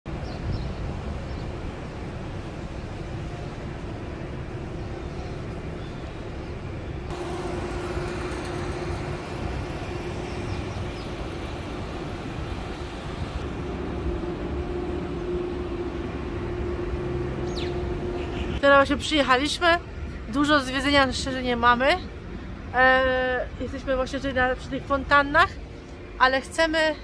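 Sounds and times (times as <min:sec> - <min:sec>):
vehicle rumble and road noise: 0:00.0 - 0:27.0
steady low hum: 0:00.9 - 0:26.3.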